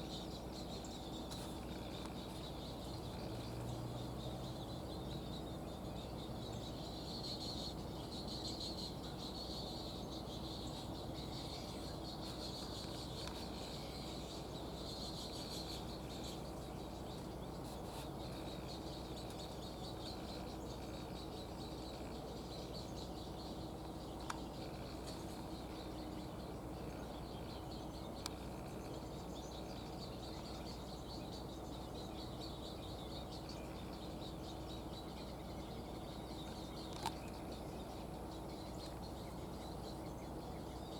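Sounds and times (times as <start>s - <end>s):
birds chattering: 0.0s - 40.9s
faint steady hum: 0.0s - 40.9s
outdoor background noise: 0.0s - 40.9s.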